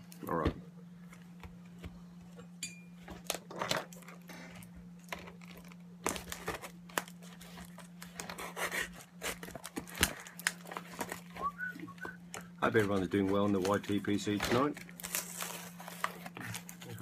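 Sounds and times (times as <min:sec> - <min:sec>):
steady low hum: 0:00.0 - 0:17.0
packaging crinkling and rustling: 0:03.1 - 0:17.0.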